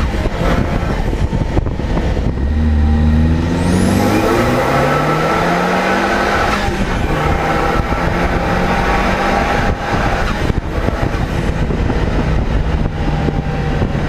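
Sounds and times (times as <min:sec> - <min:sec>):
car engine running hard: 0:00.0 - 0:14.0
heavy wind: 0:00.0 - 0:14.0
road rumble: 0:00.0 - 0:14.0.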